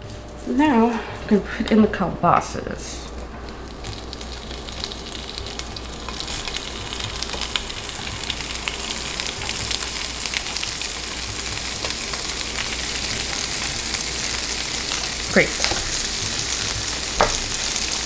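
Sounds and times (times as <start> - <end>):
meat sizzling in a frying pan: 3.4 - 18.0.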